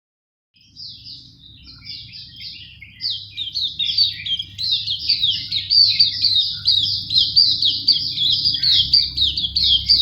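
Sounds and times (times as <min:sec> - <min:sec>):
low steady hum: 0:00.6 - 0:10.0
songbird chirping: 0:00.6 - 0:10.0.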